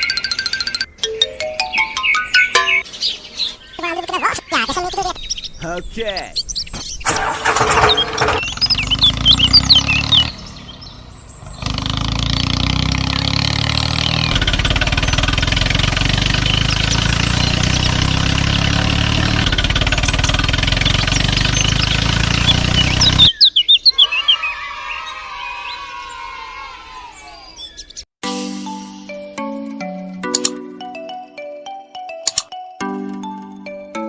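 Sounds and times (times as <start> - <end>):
birds chirping: 0.0 - 28.1.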